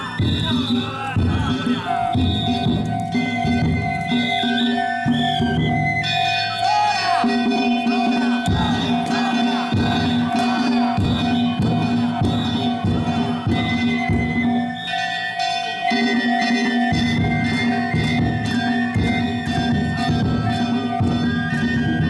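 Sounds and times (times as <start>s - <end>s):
taiko drum beats: 0.0s - 22.0s
level crossing bell ringing: 1.5s - 21.4s
hand gongs clanging: 1.7s - 21.8s.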